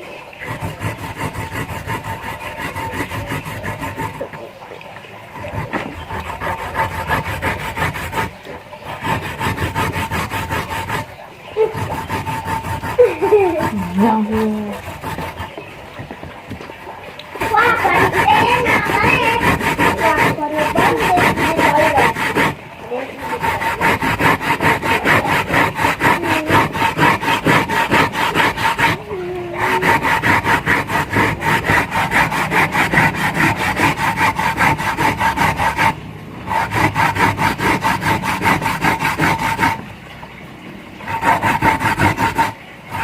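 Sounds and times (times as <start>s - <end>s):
utensil scraping food: 0.0s - 40.0s, 41.0s - 43.0s.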